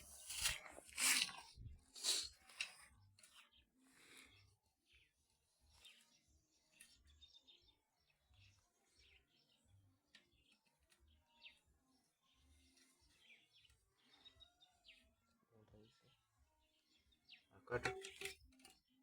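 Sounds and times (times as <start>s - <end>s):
faint bird chirps: 2.0s - 17.8s.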